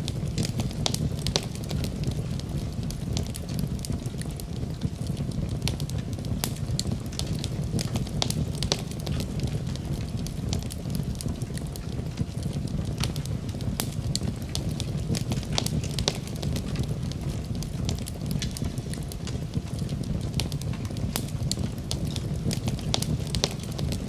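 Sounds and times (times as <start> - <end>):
burning wood crackling and popping: 0.0 - 24.0
wood fire rumbling: 0.0 - 24.0.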